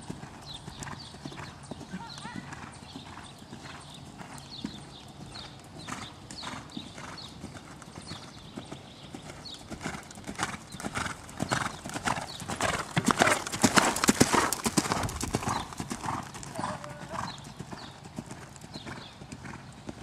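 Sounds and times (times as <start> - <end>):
horse hoofbeats on sand: 0.0 - 20.0.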